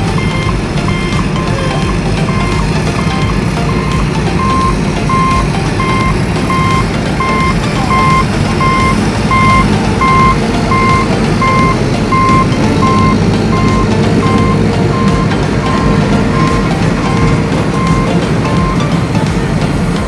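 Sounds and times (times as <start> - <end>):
reversing alarm beeping: 0.0 - 19.0
steady low rumble: 0.0 - 20.0.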